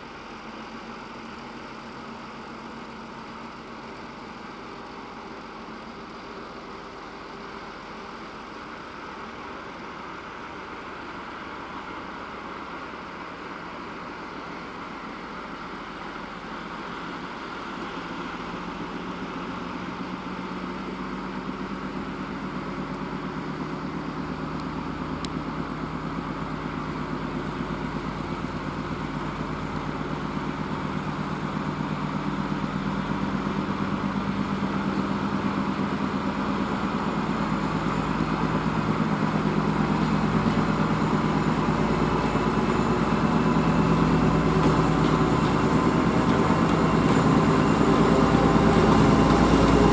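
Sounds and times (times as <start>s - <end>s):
diesel locomotive engine drone: 0.0s - 49.9s.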